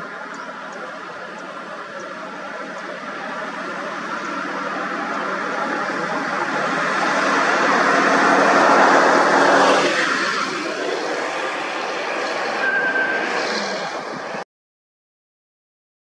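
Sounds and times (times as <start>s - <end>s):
vehicle engine and tyre hum: 0.0s - 14.4s.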